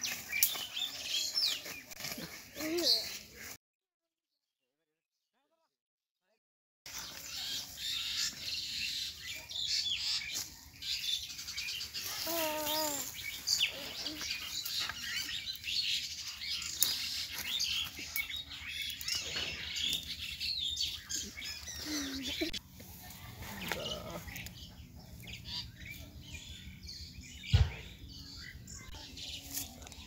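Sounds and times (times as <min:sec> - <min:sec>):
small birds chirping: 0:00.0 - 0:03.6, 0:06.9 - 0:30.0.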